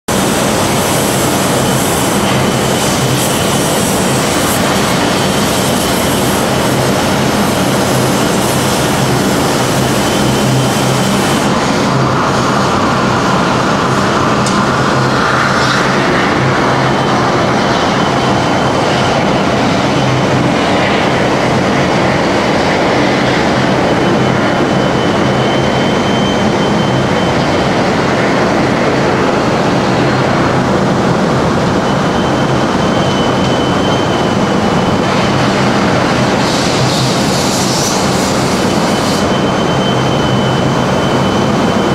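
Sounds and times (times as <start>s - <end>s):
low industrial hum: 0.1s - 41.9s.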